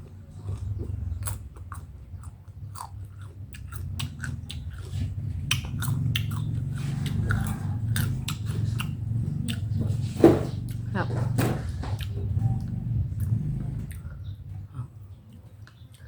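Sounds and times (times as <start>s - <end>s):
crunchy chewing of mango: 0.0s - 16.0s.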